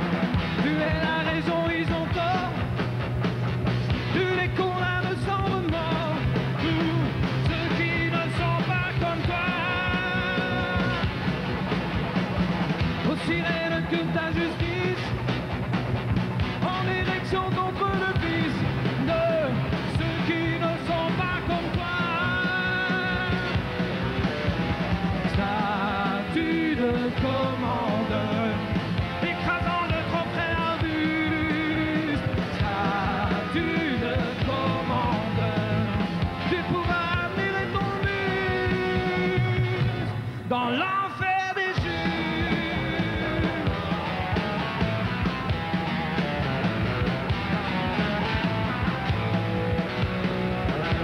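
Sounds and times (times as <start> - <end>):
electric guitar lead: 0.0 - 40.5, 41.7 - 51.0
live rock band playing: 0.0 - 51.0.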